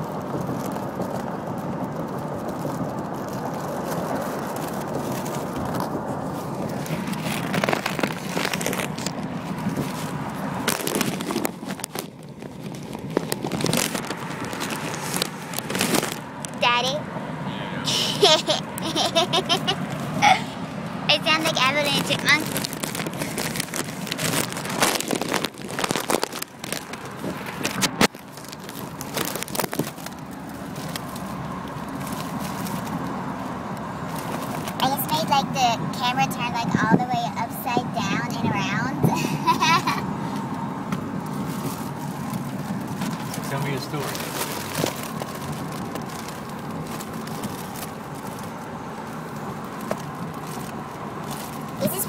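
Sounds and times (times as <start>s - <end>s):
car cabin road noise: 0.0s - 52.0s
microphone handling rubbing and crackling: 2.1s - 17.0s, 17.9s - 33.1s, 34.0s - 52.0s.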